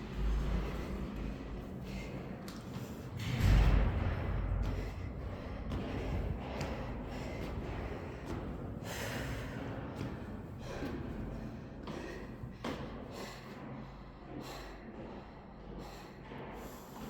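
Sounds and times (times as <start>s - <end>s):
person breathing heavily: 0.0s - 17.0s.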